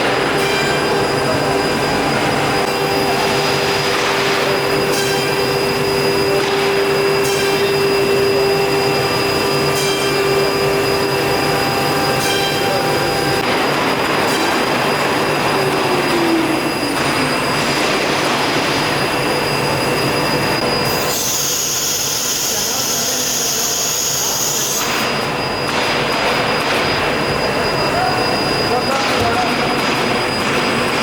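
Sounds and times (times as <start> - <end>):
cnc router spindle whining: 0.0 - 31.0.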